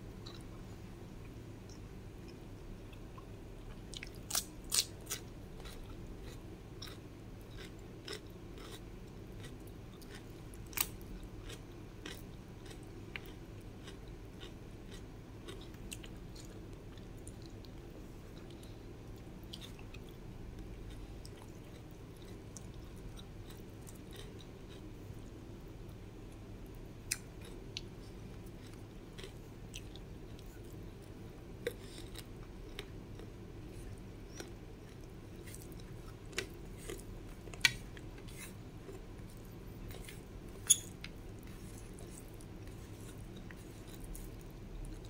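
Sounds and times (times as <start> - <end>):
steady low hum: 0.0 - 45.0
chewing and crunching: 1.7 - 25.2, 26.6 - 45.0.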